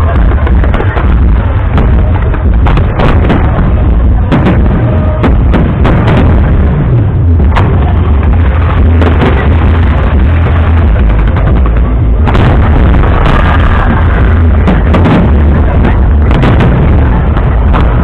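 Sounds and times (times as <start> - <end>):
continuous heavy rumble: 0.0 - 18.0
fireworks bursting: 0.0 - 18.0
sharp firework bangs: 0.0 - 18.0.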